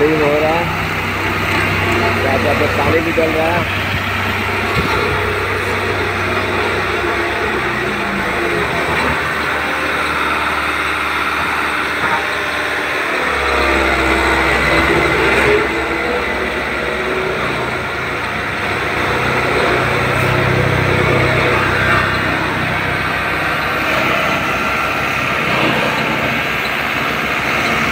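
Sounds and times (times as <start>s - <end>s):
tractor diesel engine: 0.0s - 27.9s.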